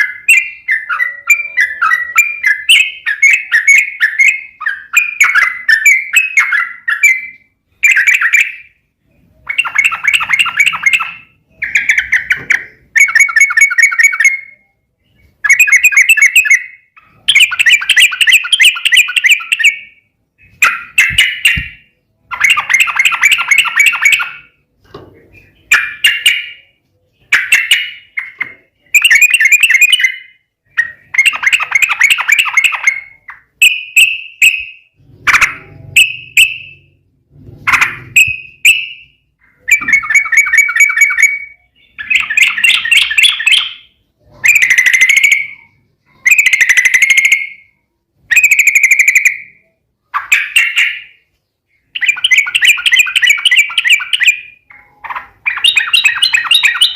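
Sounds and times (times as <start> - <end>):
bulbul rapid chattering song: 0.0 - 56.9.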